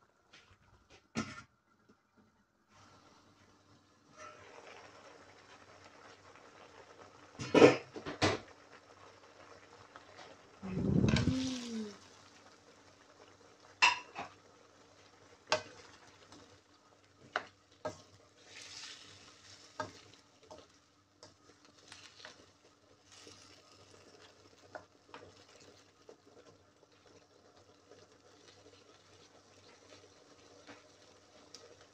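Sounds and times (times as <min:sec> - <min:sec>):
faint simmering sizzle: 0:00.0 - 0:31.9.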